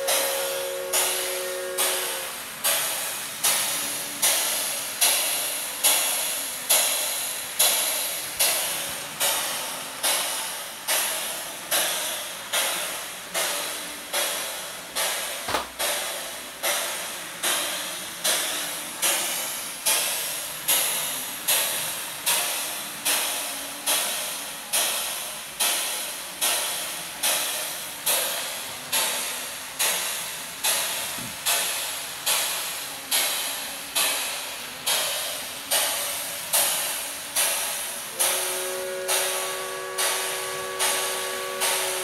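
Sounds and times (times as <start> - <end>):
steam locomotive chuffing: 0.0 - 42.0.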